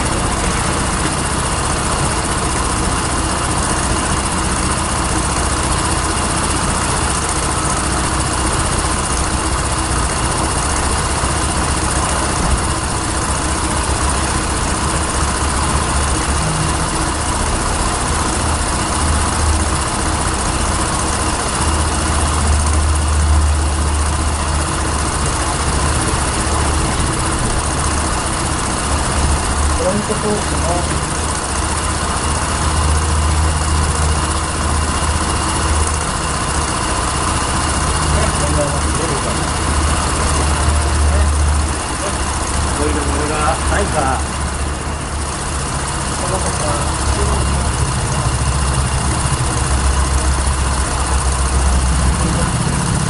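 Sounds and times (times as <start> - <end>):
scooter engine idling: 0.0 - 53.0.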